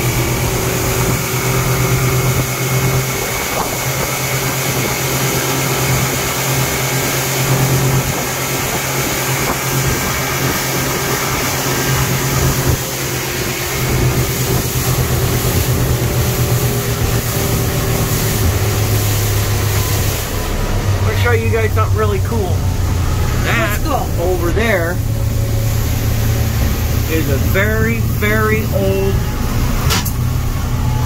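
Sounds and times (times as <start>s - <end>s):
outboard motor running: 0.0s - 31.0s
water rushing from wake: 0.0s - 31.0s.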